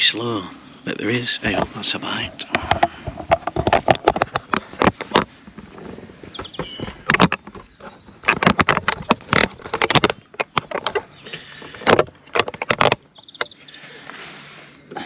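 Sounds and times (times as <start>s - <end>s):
handling knocks clicks and rattles: 1.4s - 13.6s.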